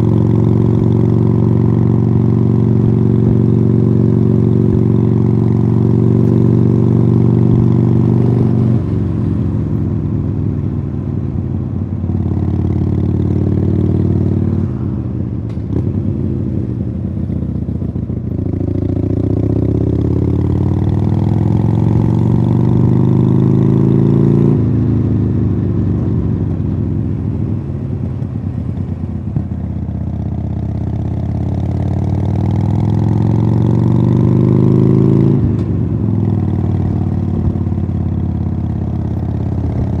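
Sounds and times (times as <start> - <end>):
motorcycle engine revving: 0.0 - 9.9, 10.5 - 40.0.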